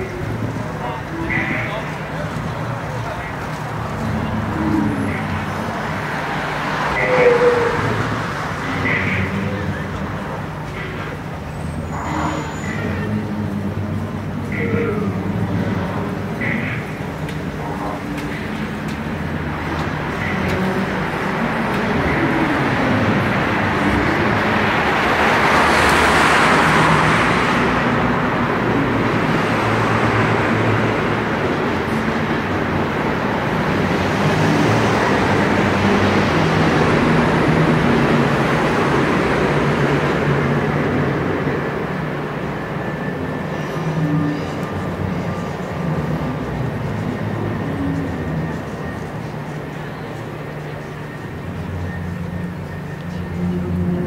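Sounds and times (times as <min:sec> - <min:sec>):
road traffic noise: 0:00.0 - 0:54.0
vehicles passing: 0:00.0 - 0:54.0.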